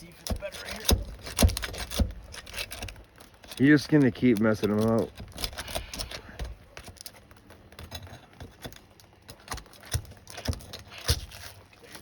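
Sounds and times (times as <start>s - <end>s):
nail bar prying under shingles: 0.0s - 12.0s.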